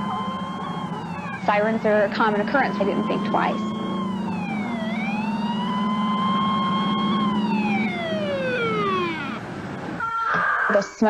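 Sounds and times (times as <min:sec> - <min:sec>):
truck engine drone: 0:00.0 - 0:10.1
fire engine siren wailing: 0:00.0 - 0:10.8.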